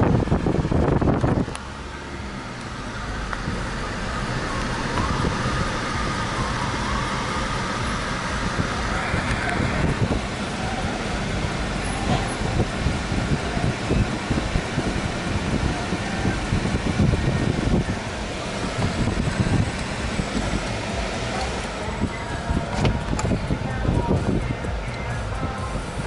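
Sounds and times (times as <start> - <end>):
car engine and road noise: 0.0 - 26.0
surrounding traffic: 0.0 - 26.0.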